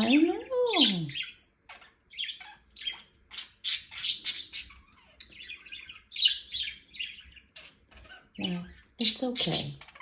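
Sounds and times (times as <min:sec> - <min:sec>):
budgie chirping and warbling: 0:00.0 - 0:10.0.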